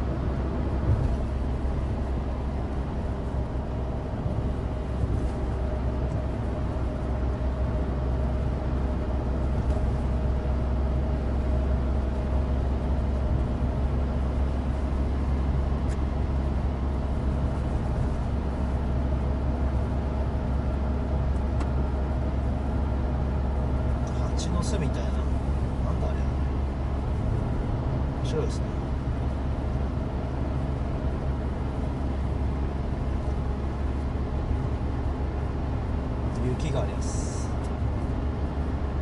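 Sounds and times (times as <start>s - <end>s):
car engine running: 0.0s - 39.0s
tyre road rumble: 0.0s - 39.0s.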